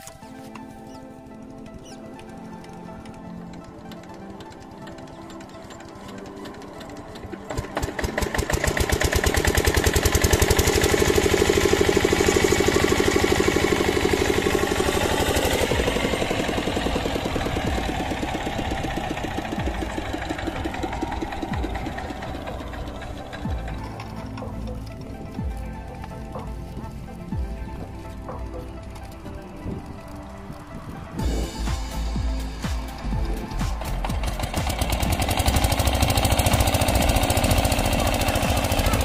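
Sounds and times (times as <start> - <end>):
diesel engine starting and running: 0.0 - 39.0.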